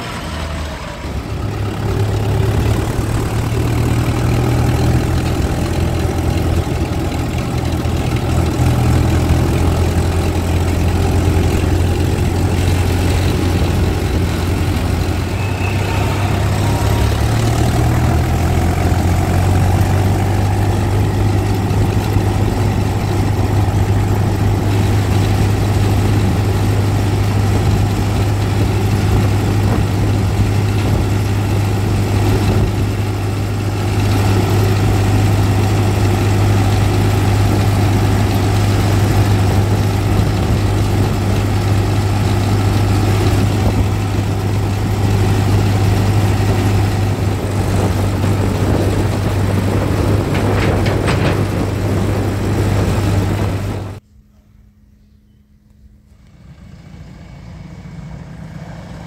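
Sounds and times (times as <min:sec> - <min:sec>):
diesel tractor engine drone: 0:00.0 - 0:54.8, 0:55.7 - 0:59.0.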